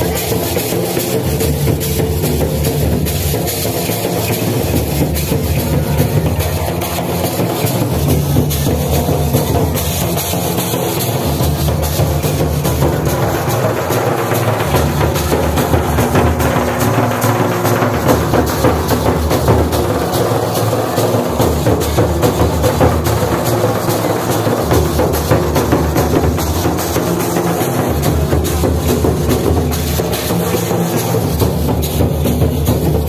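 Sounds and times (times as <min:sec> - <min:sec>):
drum band playing dance rhythm: 0:00.0 - 0:33.0.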